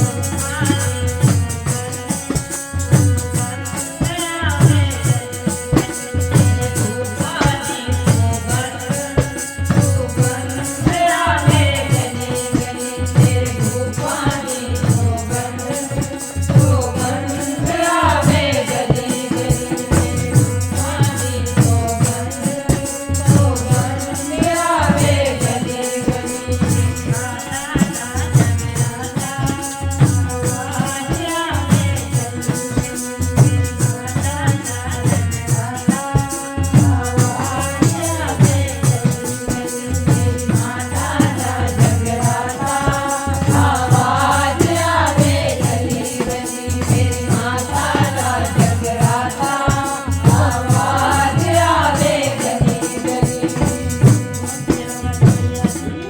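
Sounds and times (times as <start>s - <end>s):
devotional singing: 0.0s - 56.0s
rattling percussion: 0.0s - 56.0s
steady drum beat: 0.0s - 56.0s.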